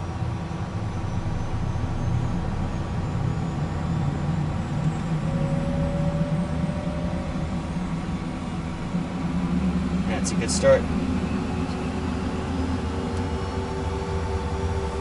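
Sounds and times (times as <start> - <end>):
jet engine spooling up: 0.0 - 15.0.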